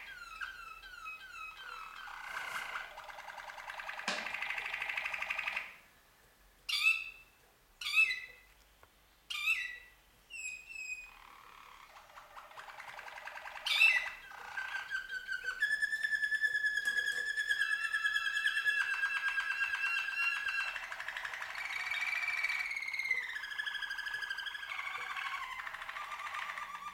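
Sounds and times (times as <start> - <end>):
canaries singing: 0.0 - 5.8, 6.7 - 8.5, 9.3 - 26.9.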